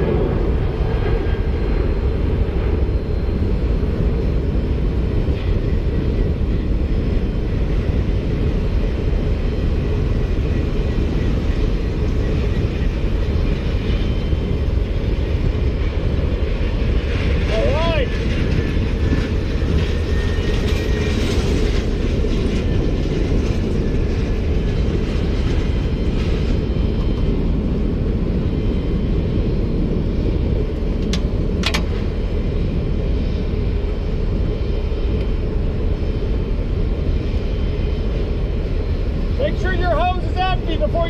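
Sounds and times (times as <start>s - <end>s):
low mechanical rumble: 0.0s - 41.0s.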